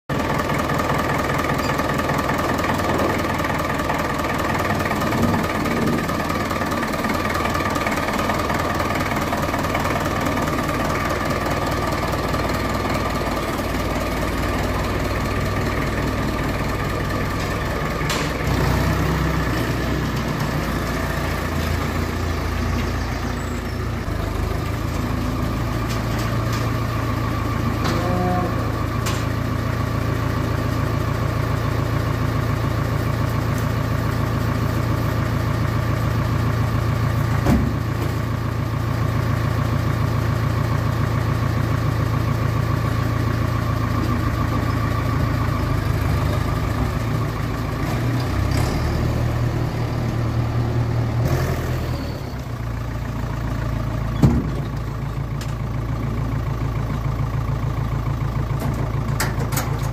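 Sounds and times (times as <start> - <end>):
engine running: 0.1 - 59.9.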